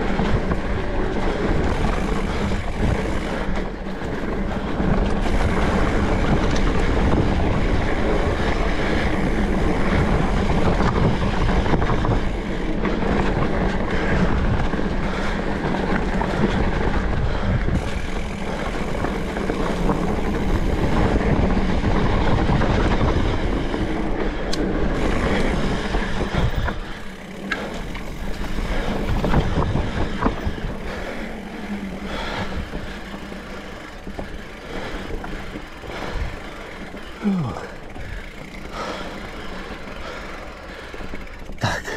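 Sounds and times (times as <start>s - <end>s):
tyres rumbling on dirt trail: 0.0s - 41.9s.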